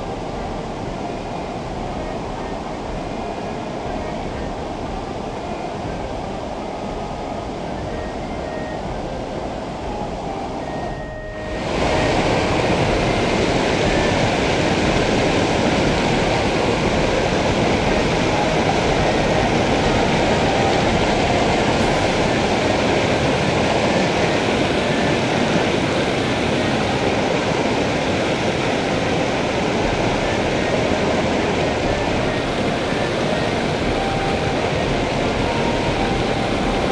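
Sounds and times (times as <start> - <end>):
river water rushing over rocks: 0.0 - 36.9.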